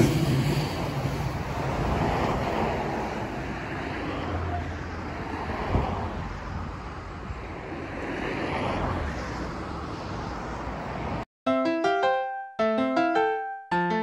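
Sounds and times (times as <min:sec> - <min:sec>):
train rumbling away: 0:00.0 - 0:11.2.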